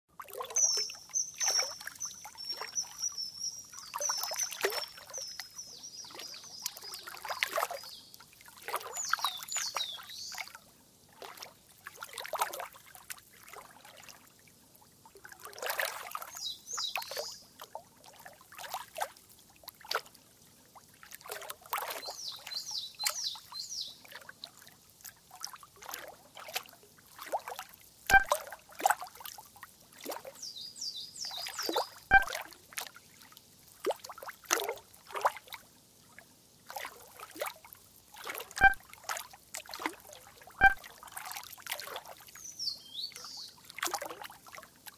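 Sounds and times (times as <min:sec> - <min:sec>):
water trickling and splashing: 0:00.1 - 0:44.9.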